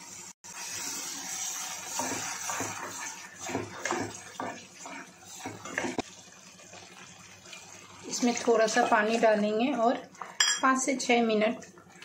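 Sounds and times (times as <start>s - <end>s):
steady sizzle: 0.0s - 12.0s
spatula scraping and stirring in a pan: 0.8s - 6.1s, 7.5s - 12.0s.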